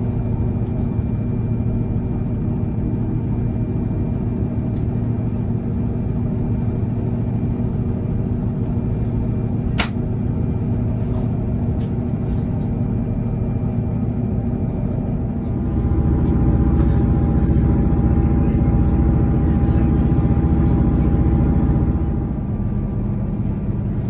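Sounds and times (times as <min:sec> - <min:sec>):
train engine rumbling: 0:00.0 - 0:24.0.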